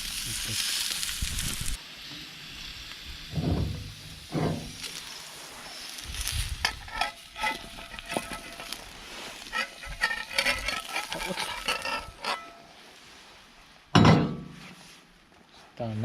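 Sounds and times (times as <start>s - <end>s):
steak sizzling: 0.0s - 12.8s
campfire crackling: 0.0s - 13.8s.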